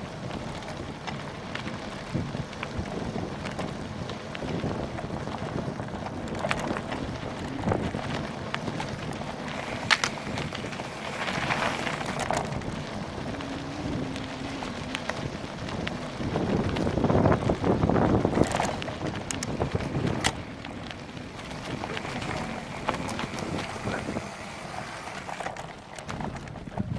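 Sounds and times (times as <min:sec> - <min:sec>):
bike clicks and rattles: 0:00.0 - 0:26.9
wind buffeting microphone: 0:00.0 - 0:26.9.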